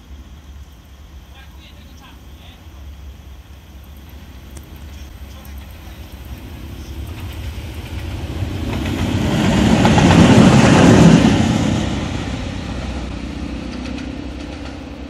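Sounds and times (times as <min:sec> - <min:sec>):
locomotive passing with rail noise: 0:00.0 - 0:15.0.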